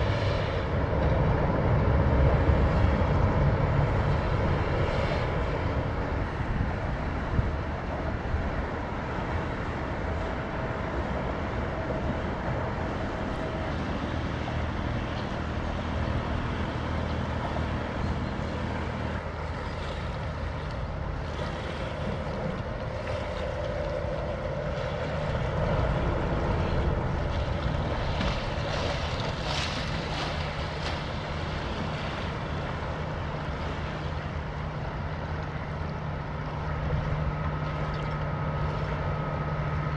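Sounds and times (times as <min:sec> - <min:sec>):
ship diesel engine droning: 0:00.0 - 0:39.9.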